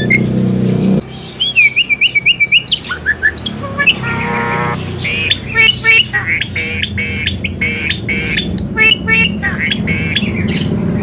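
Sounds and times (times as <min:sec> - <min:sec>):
myna singing chatter: 0:01.3 - 0:11.0.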